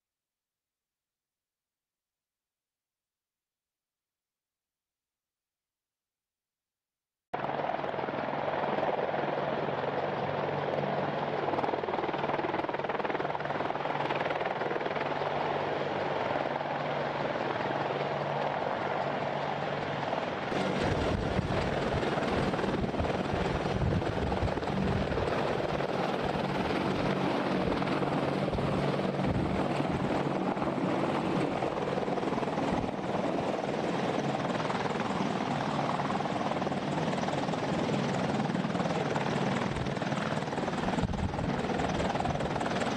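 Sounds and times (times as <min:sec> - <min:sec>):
helicopter rotor and turbine noise: 0:07.4 - 0:42.9.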